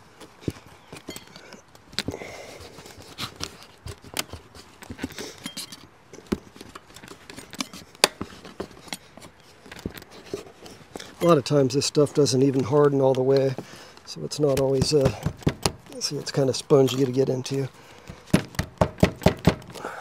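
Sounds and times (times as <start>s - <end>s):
hand tool scraping putty: 0.5s - 18.7s.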